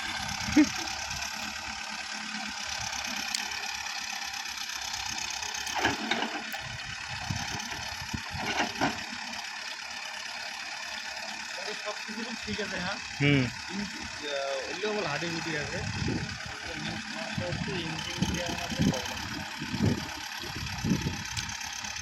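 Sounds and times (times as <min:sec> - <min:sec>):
engine clatters: 0:00.0 - 0:22.0
engine idling: 0:00.0 - 0:22.0.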